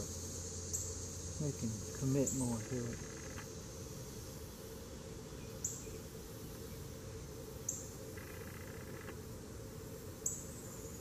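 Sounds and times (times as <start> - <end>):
buzzy insect call: 0.0 - 11.0
insects chirping: 0.0 - 11.0.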